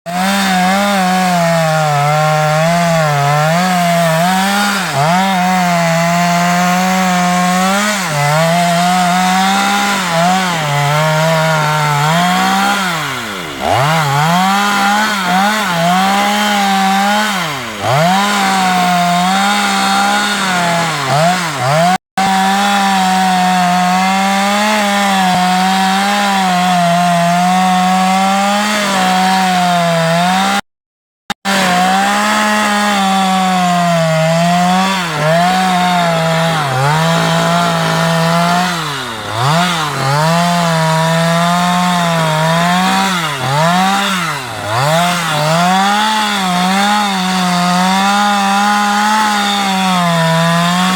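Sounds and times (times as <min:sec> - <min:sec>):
chainsaw cutting wood: 0:00.0 - 0:30.7, 0:31.3 - 0:50.9.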